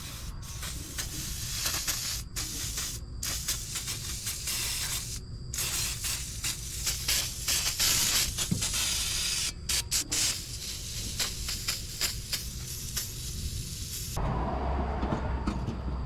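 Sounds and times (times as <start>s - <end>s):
hissing spray: 0.0s - 14.2s.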